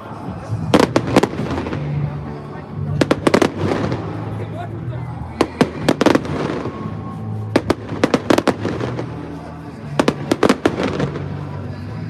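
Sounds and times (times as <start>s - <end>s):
fireworks bangs and crackles: 0.6s - 4.6s, 5.3s - 11.8s.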